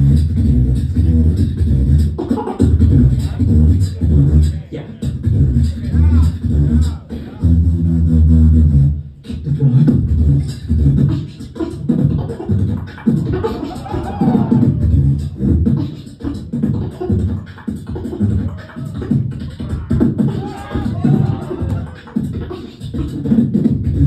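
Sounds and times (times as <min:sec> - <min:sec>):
beatboxing through loudspeakers: 0:00.0 - 0:24.0.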